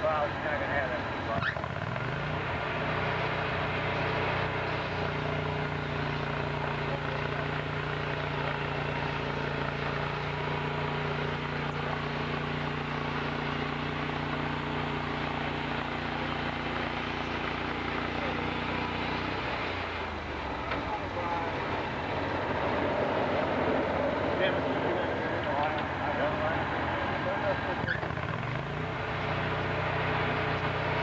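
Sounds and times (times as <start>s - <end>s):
sawmill engine humming: 0.0s - 31.0s.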